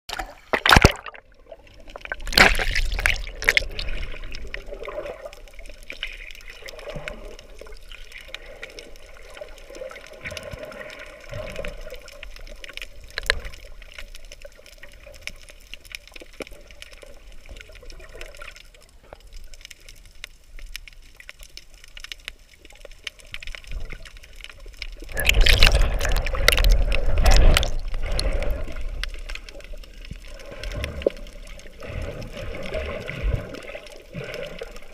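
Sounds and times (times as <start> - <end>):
water gurgling: 0.1 - 34.9
water sloshing underwater: 0.1 - 34.9.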